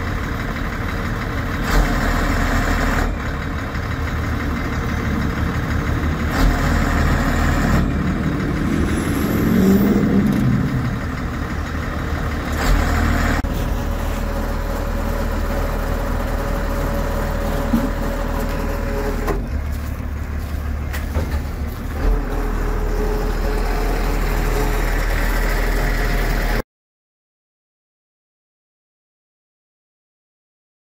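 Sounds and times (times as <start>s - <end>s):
truck engine running: 0.0s - 26.6s.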